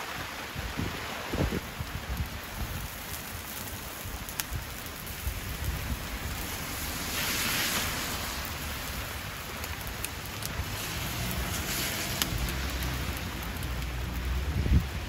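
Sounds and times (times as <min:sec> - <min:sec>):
rain hissing: 0:00.0 - 0:15.0
wood fire crackling: 0:00.0 - 0:15.0
fire pops: 0:01.3 - 0:15.0.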